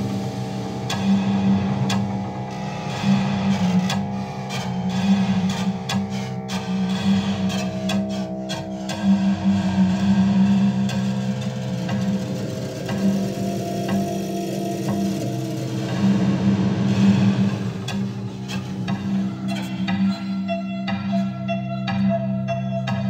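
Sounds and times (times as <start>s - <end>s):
synth drone with throbbing chuffs: 0.0s - 21.7s.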